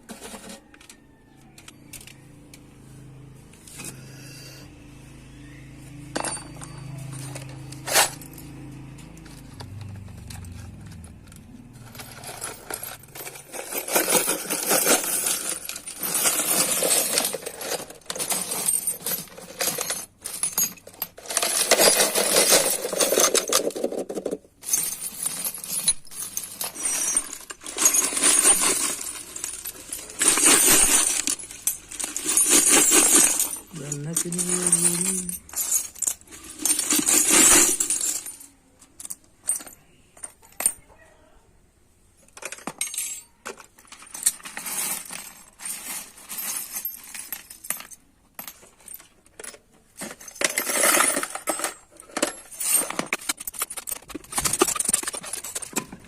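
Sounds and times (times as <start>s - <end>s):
metallic scraping and clinking: 0.0s - 4.7s, 5.4s - 40.9s, 42.2s - 56.0s.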